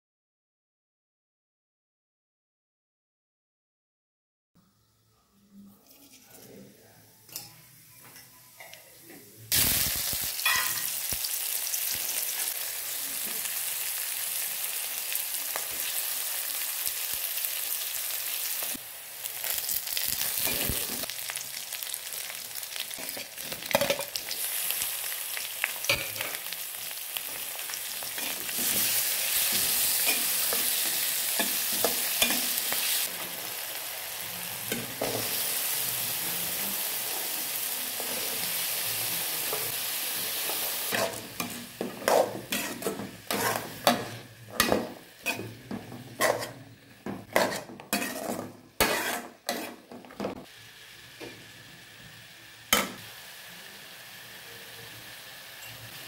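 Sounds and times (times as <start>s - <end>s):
hot oil sizzling: 9.5s - 56.0s.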